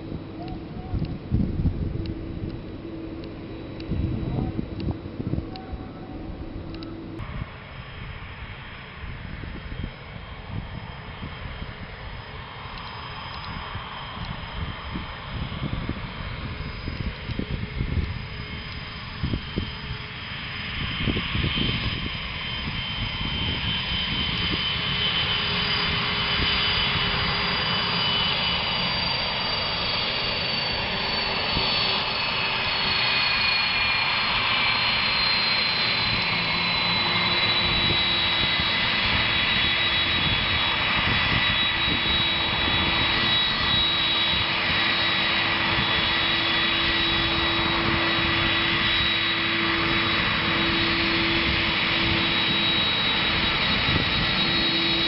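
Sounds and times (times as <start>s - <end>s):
jet engines whining while taxiing: 0.0s - 55.0s.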